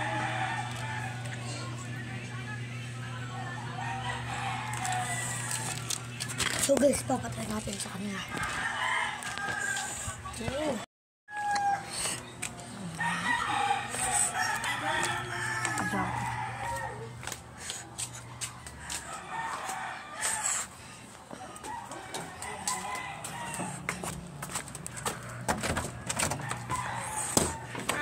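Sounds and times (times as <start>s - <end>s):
rooster crowing: 0.0s - 1.8s, 3.2s - 6.1s, 8.1s - 10.3s, 11.3s - 28.0s.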